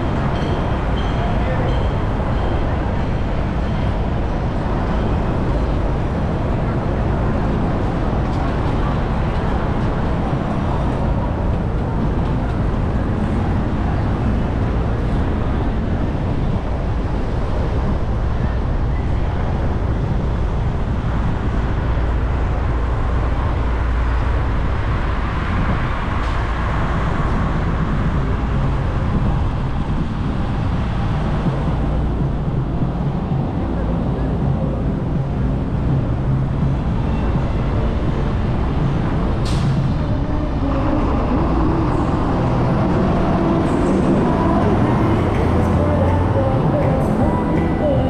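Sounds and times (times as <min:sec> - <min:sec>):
city traffic road noise: 0:00.0 - 0:48.0.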